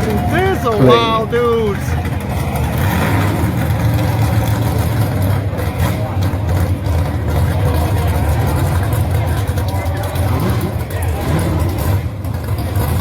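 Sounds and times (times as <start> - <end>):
drag car engine rumbling: 0.0 - 13.0.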